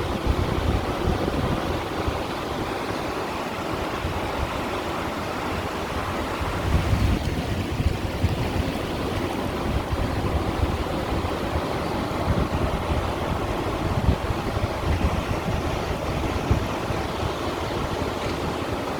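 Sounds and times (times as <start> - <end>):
waves washing against stones: 0.0 - 18.9
wind buffeting microphone: 0.0 - 18.9.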